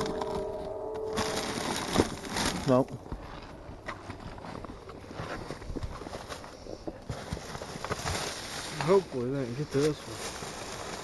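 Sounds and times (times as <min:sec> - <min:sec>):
rustling of cardboard boxes: 0:01.1 - 0:11.0.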